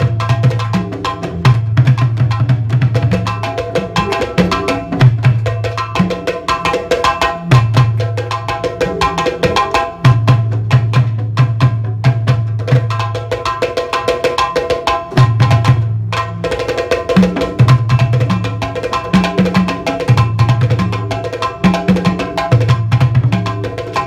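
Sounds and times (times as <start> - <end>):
rapid sharp drum strikes: 0.0 - 24.0.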